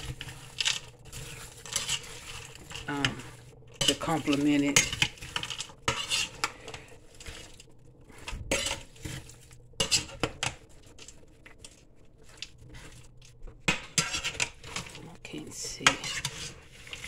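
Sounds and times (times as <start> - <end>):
spatula scraping metal pot: 0.0 - 17.0.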